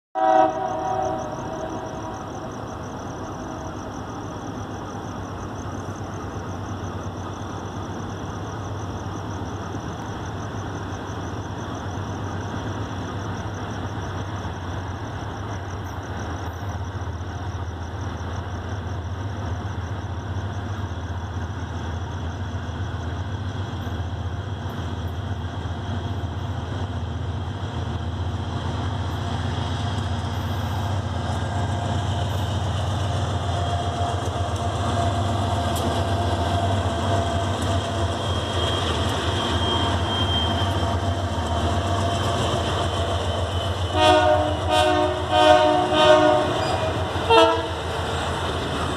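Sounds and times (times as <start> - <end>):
diesel locomotive engine rumble: 0.2 - 48.9.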